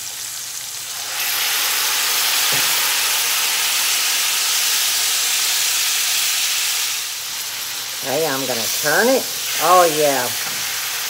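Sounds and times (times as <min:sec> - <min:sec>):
water hissing into steam in hot pot: 0:00.0 - 0:11.0.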